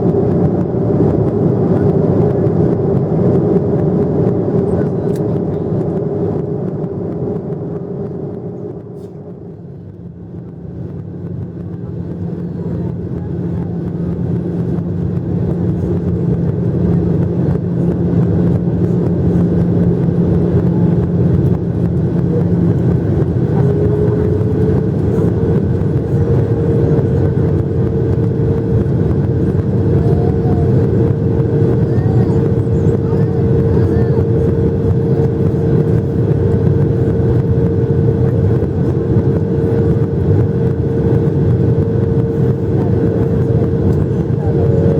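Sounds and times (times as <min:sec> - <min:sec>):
jet engines rumbling with fan whine: 0:00.0 - 0:44.9.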